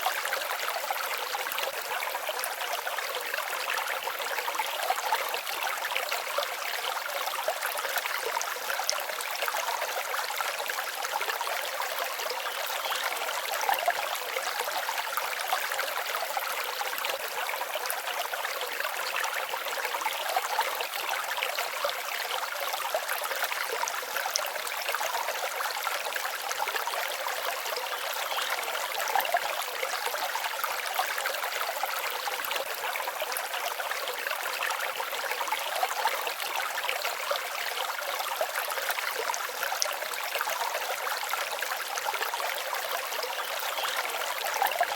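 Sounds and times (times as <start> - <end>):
stream babbling: 0.0 - 44.9.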